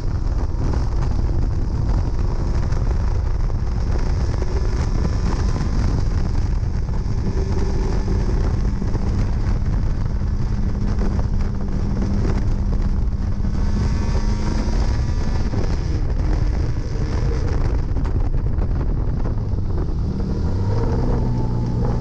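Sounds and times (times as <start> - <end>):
wind buffeting microphone: 0.0 - 22.0
race car engine accelerating: 1.8 - 18.2, 19.0 - 22.0.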